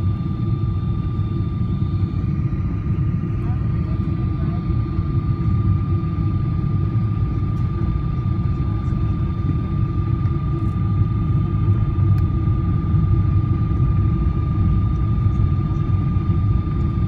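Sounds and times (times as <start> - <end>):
low rumble of engines and airflow: 0.0 - 17.0
steady high whine: 0.0 - 17.0.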